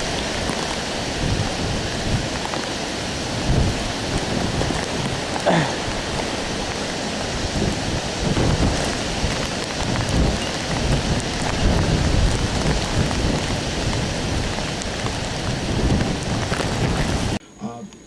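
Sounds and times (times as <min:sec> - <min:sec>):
gusting wind rumble: 0:00.0 - 0:17.4
heavy rain hissing: 0:00.0 - 0:17.4.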